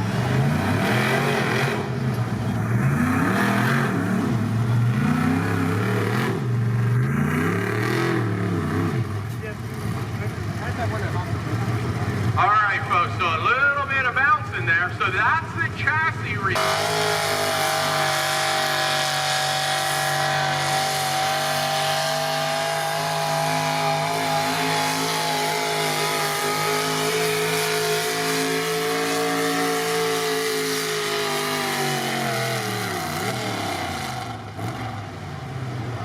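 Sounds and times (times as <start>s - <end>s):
truck engine at full throttle: 0.0s - 36.0s.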